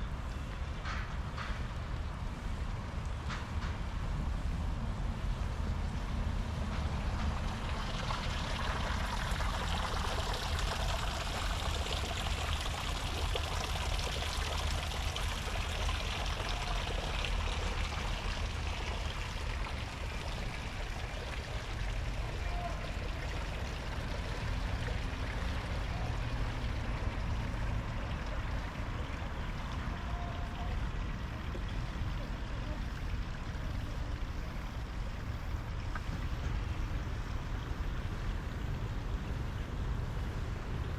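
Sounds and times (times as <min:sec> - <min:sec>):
stream water rushing: 0:04.5 - 0:40.9.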